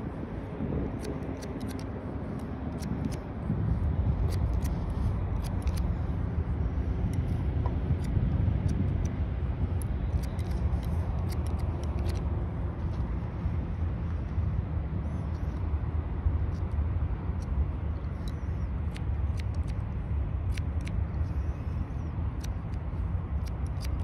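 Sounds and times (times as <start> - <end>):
shears snipping hair: 0.0 - 13.5, 16.4 - 24.0
steady low rumble: 0.0 - 24.0.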